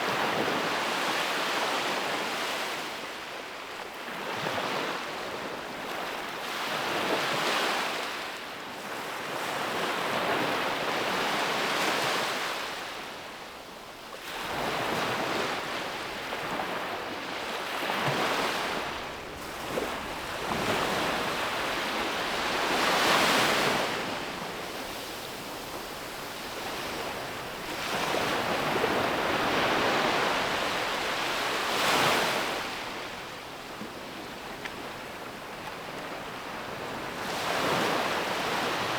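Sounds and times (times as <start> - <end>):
sea waves breaking on a beach: 0.0 - 38.9.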